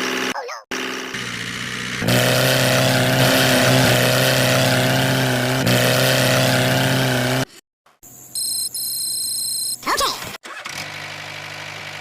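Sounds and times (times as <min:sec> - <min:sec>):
engine running: 0:00.0 - 0:08.5, 0:10.4 - 0:12.0.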